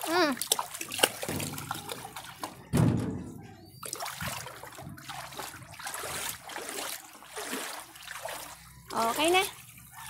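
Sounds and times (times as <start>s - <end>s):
water splashing while wading: 0.0s - 2.7s, 3.8s - 10.0s.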